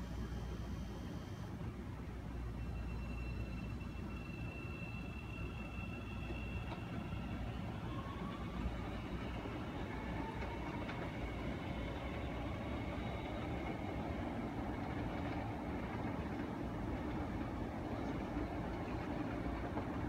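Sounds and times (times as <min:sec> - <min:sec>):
train rumbling and whining: 0:00.0 - 0:20.0.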